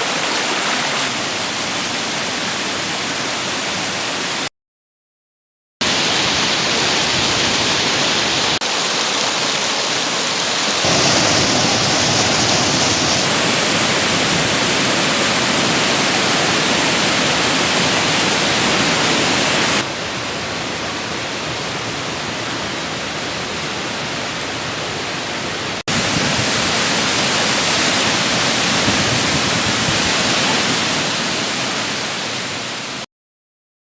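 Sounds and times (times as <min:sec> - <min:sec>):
rushing water: 0:00.0 - 0:04.5, 0:05.8 - 0:33.1.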